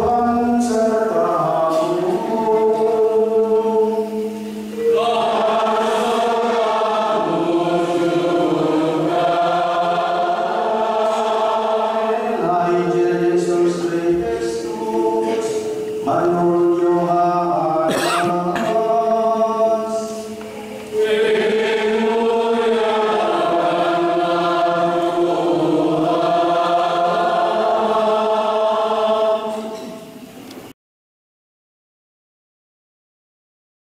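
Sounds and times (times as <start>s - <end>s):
voices singing a liturgical chant: 0.0s - 30.2s.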